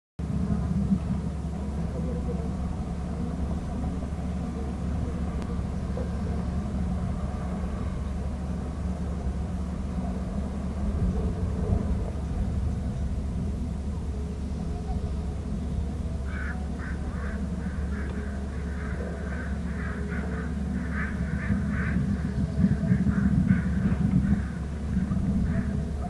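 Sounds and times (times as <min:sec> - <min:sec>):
steady low rumble: 0:00.2 - 0:26.0.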